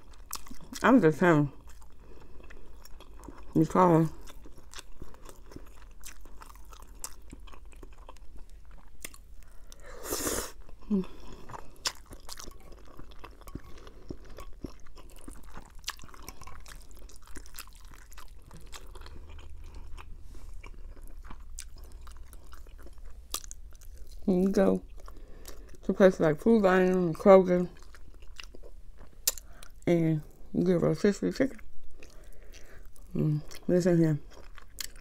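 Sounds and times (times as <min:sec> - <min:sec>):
wet chewing and smacking: 0:00.0 - 0:00.9, 0:01.5 - 0:09.8, 0:10.6 - 0:25.9, 0:27.0 - 0:29.8, 0:31.5 - 0:35.0.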